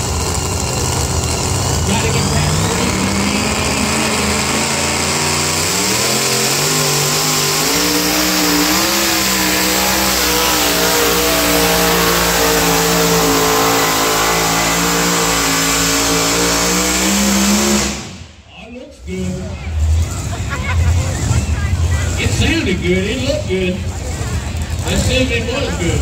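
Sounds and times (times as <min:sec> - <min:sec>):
truck engine at full throttle: 0:00.0 - 0:26.0.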